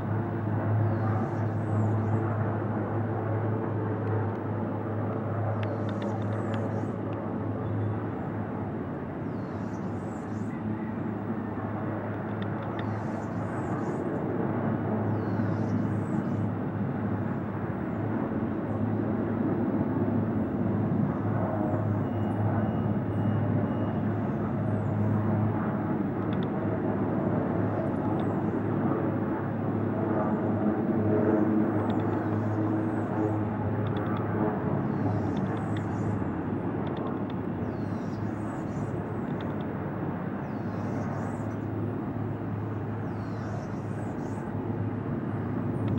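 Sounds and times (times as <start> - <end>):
helicopter droning: 0.0 - 45.9.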